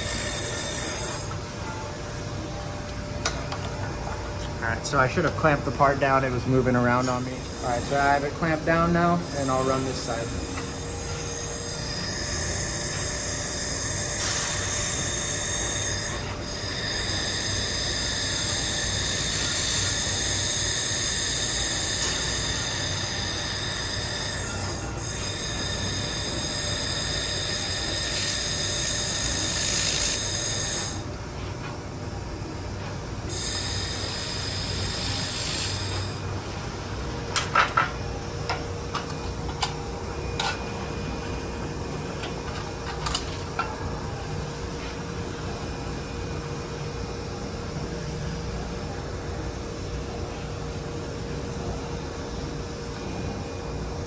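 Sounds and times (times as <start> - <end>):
laser welder whine with hiss: 0.0 - 3.4, 4.4 - 54.0.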